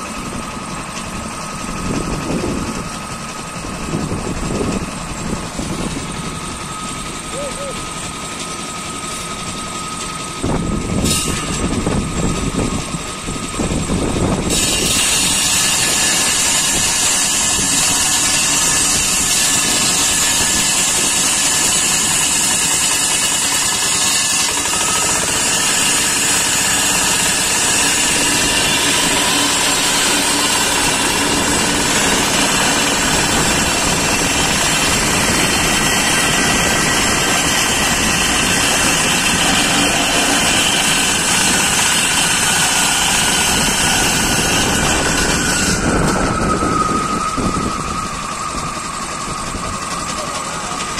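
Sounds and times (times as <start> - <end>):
circular blade grinding concrete: 0.0 - 50.9
small saw engine running: 0.0 - 50.9.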